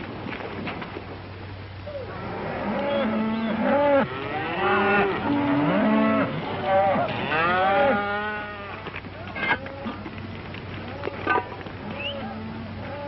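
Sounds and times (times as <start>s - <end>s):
cattle lowing and bawling: 1.8s - 13.0s.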